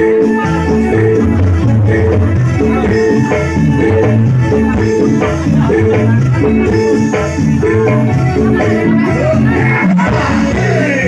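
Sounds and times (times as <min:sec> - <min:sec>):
loud live band music: 0:00.0 - 0:11.0
person singing: 0:00.0 - 0:11.0.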